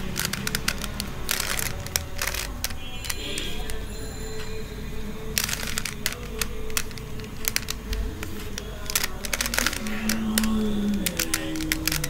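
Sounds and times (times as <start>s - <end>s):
plastic puzzle cube clicking: 0.0s - 3.9s, 5.2s - 12.0s.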